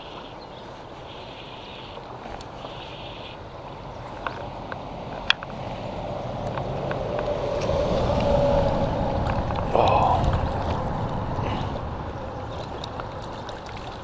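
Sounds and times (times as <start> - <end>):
water swirling and splashing: 0.0 - 14.0.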